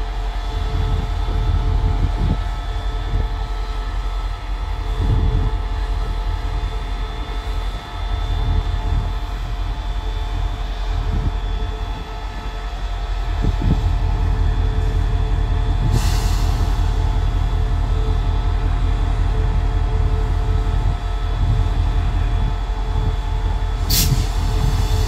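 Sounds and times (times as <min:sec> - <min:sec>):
locomotive engine drone: 0:00.0 - 0:25.0
locomotive whine: 0:00.0 - 0:25.0.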